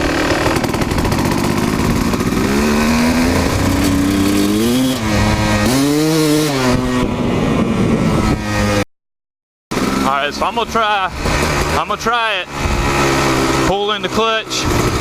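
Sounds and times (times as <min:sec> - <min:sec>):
dirt bike engine revving: 0:00.0 - 0:08.9, 0:09.7 - 0:15.0.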